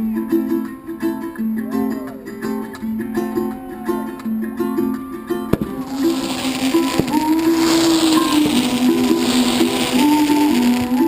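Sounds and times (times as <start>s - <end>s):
strummed guitar music: 0.0s - 11.0s.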